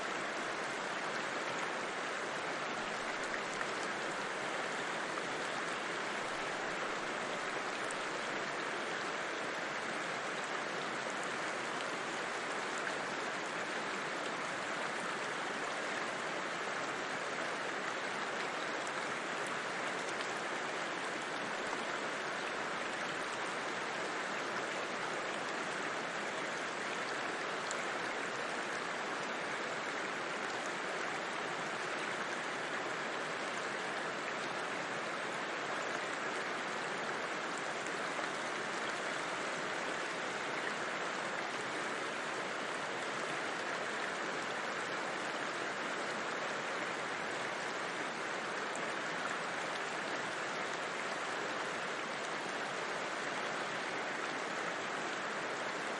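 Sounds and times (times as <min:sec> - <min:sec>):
river flowing: 0:00.0 - 0:55.9.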